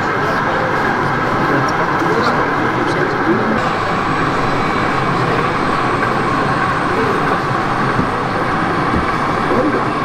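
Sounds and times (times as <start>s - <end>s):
exhibition hall background hum: 0.0s - 10.0s
model train rumbling: 0.1s - 10.0s.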